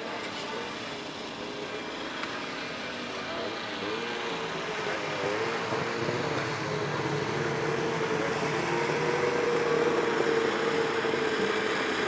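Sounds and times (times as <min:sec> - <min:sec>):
snowmobile engine running: 0:00.2 - 0:12.0.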